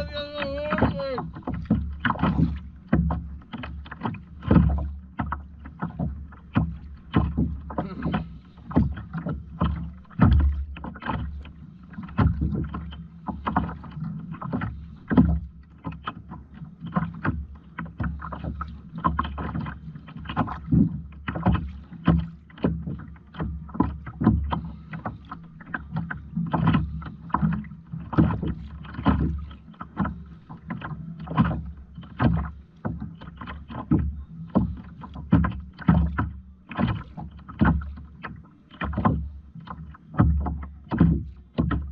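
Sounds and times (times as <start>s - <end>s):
water splashing against kayak: 0.0s - 41.9s.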